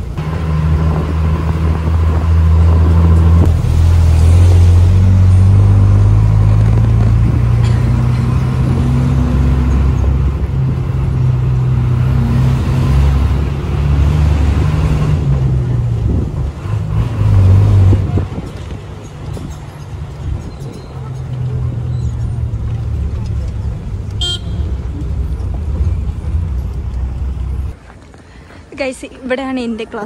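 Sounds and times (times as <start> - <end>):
bus engine changing gear: 0.0 - 27.8.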